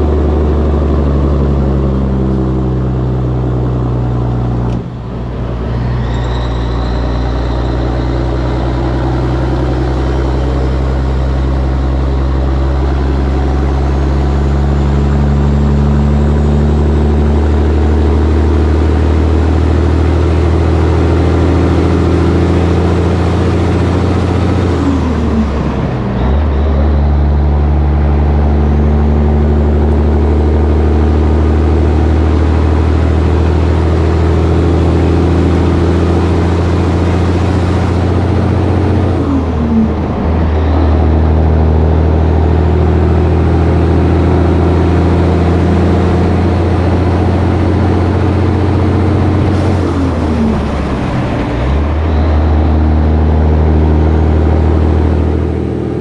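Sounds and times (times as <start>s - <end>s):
diesel truck engine under load: 0.0s - 56.0s
wind and road noise: 0.0s - 56.0s.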